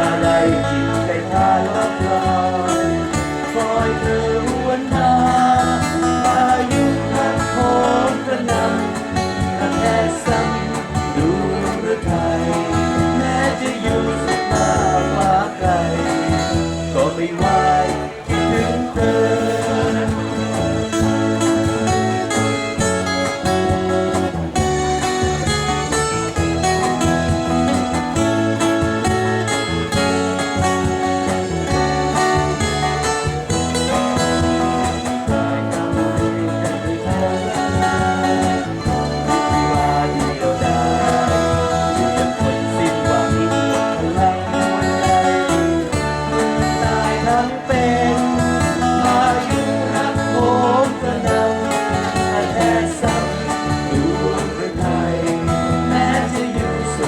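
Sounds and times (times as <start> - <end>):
band playing pop song: 0.0 - 57.0.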